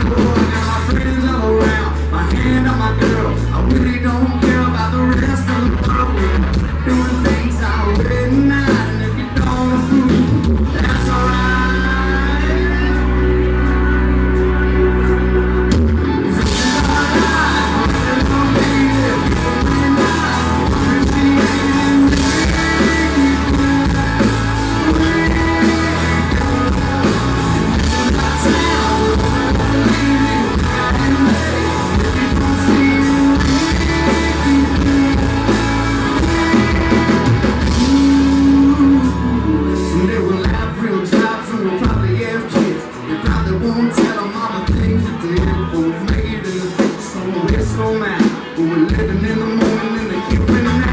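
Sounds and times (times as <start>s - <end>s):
drums and cymbals: 0.0s - 11.8s, 15.7s - 50.9s
held bass notes: 0.0s - 41.0s
live country band playing: 0.0s - 50.9s
man singing lead: 0.0s - 50.9s.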